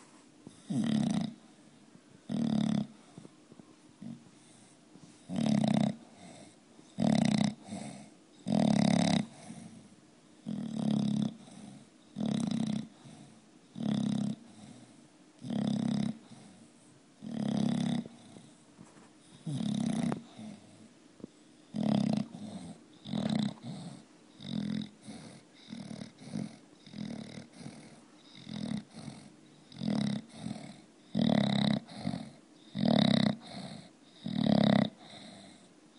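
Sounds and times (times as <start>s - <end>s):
dog snoring: 0.0s - 1.5s, 2.2s - 3.3s, 4.0s - 18.6s, 19.2s - 20.9s, 21.7s - 35.7s.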